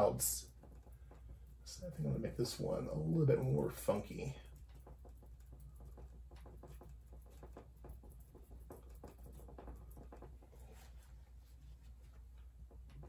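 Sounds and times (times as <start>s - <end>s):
low steady hum: 0.0s - 13.0s
paintbrush dabbing on canvas: 0.0s - 13.0s.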